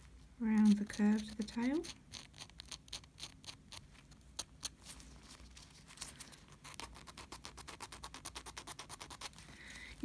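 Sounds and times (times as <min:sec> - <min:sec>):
nail file rubbing on nail: 0:00.4 - 0:09.4.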